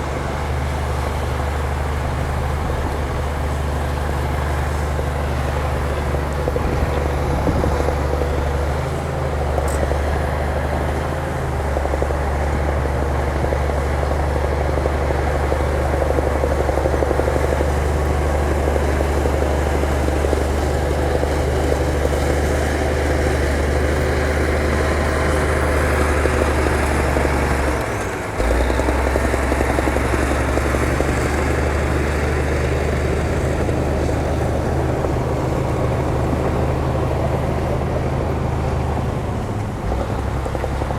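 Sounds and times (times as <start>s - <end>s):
heavy diesel engine humming: 0.0s - 40.9s.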